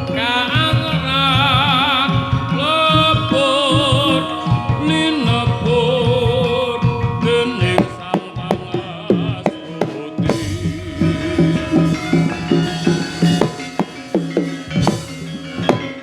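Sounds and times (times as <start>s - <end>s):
held wavering melody: 0.0s - 16.0s
run of pitched notes: 0.0s - 16.0s
sharp drum strokes: 0.0s - 16.0s.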